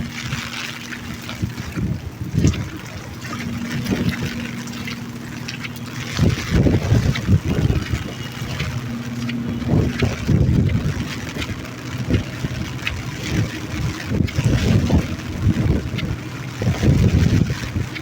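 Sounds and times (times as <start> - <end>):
rain falling: 0.0 - 18.0
wind buffeting microphone: 0.0 - 18.0.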